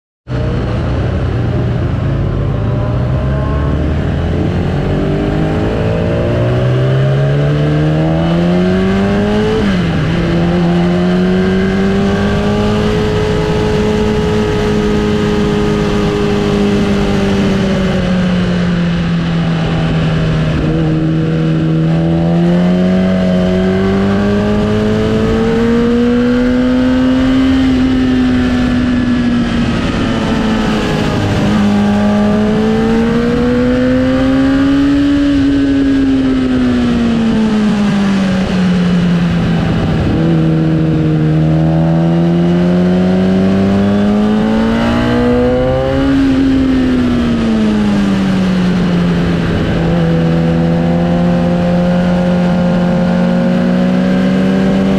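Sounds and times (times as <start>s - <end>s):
motorcycle engine revving: 0.2s - 54.9s.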